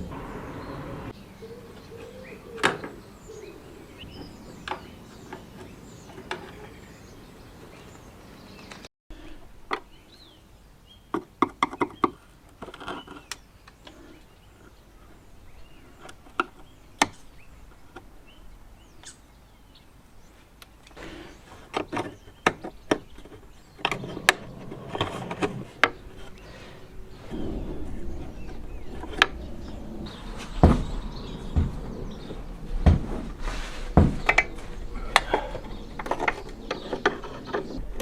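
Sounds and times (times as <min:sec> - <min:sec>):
low steady background noise: 0:00.0 - 0:38.0.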